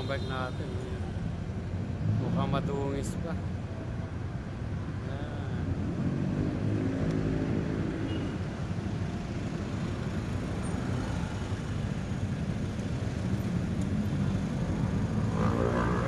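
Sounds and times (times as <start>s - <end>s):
vehicle engines passing: 0.0s - 16.0s.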